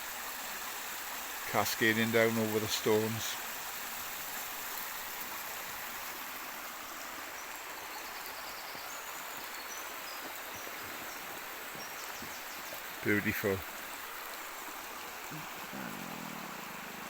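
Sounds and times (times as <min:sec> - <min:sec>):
stream running over stones: 0:00.0 - 0:17.0.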